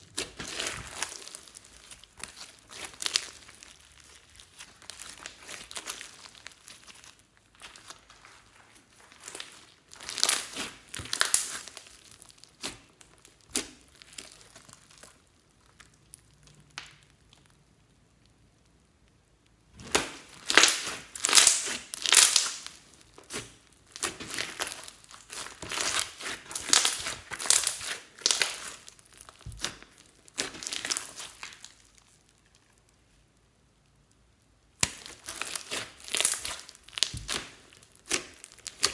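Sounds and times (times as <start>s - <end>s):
slime crackling and squishing: 0.0s - 38.9s.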